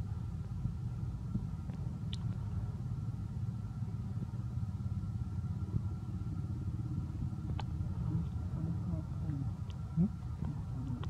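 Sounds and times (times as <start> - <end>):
engine running with low rumble: 0.0 - 11.0.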